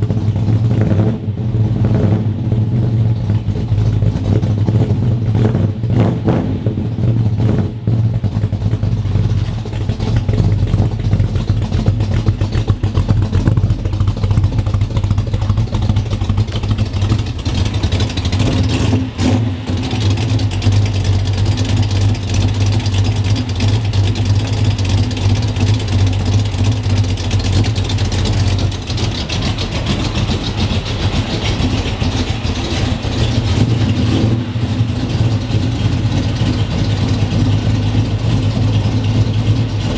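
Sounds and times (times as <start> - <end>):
car engine rumbling idle: 0.0 - 39.9.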